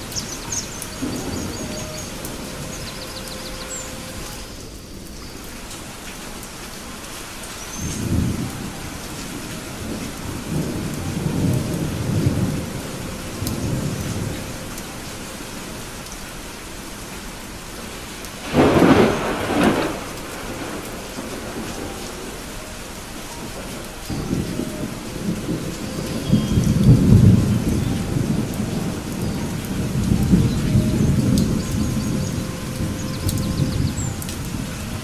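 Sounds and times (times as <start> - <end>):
thunder rumbling: 0.0 - 6.0, 7.8 - 16.0, 18.3 - 35.0
steady rain: 0.0 - 35.0.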